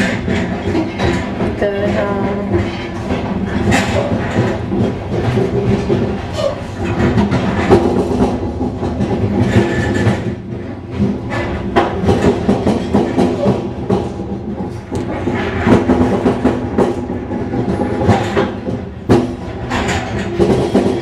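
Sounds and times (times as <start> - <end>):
track clatter clicks: 0.0 - 21.0
train wheels rumbling on rails: 0.0 - 21.0.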